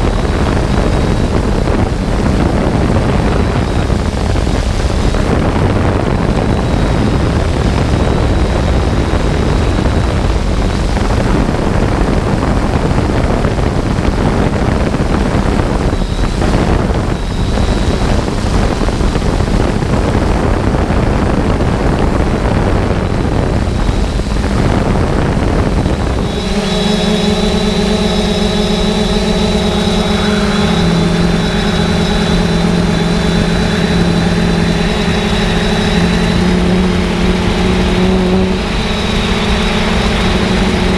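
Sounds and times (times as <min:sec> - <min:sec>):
drone propellers humming: 0:00.0 - 0:40.9
wind rushing over microphone: 0:00.0 - 0:40.9.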